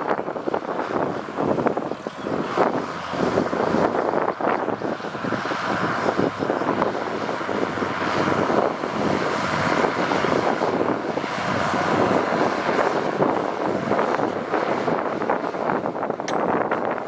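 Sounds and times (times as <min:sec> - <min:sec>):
heavy construction machinery: 0:00.0 - 0:17.0
wind buffeting microphone: 0:00.0 - 0:17.0.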